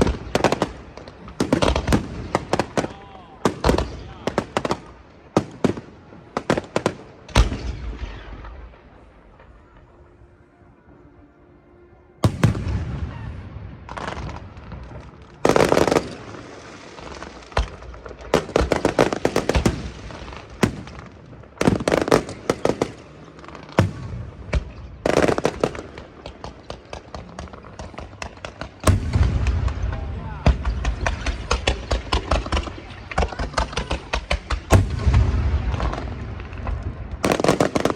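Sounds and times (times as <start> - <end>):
fireworks bangs and crackling: 0.0 - 10.2, 12.2 - 37.9.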